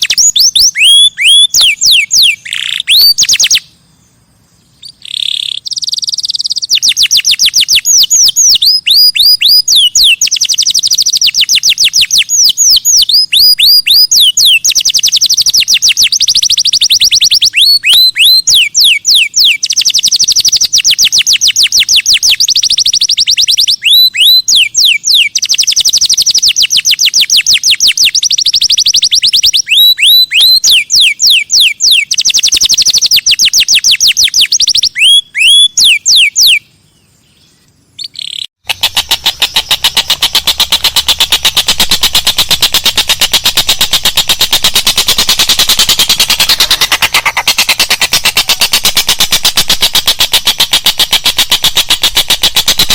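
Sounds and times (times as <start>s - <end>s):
songbird singing trills: 0.0s - 52.9s.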